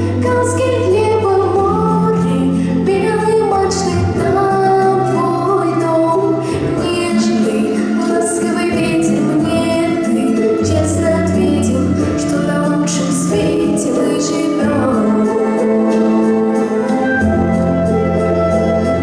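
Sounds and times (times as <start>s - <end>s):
woman singing: 0.0s - 17.9s
instrumental accompaniment: 0.0s - 19.0s.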